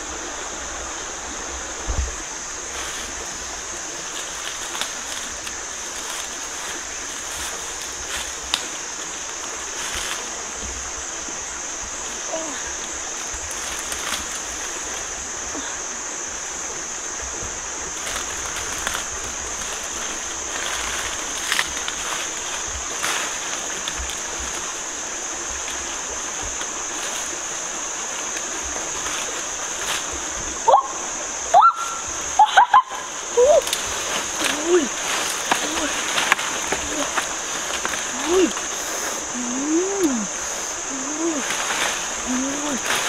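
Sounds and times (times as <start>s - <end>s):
rustling in dry leaves: 0.0s - 43.0s.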